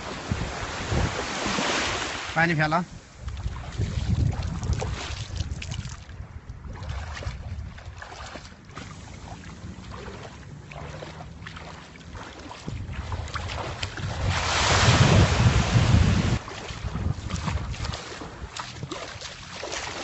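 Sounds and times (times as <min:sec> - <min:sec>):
wind buffeting microphone: 0:00.0 - 0:20.0
shallow water splashing: 0:03.0 - 0:20.0.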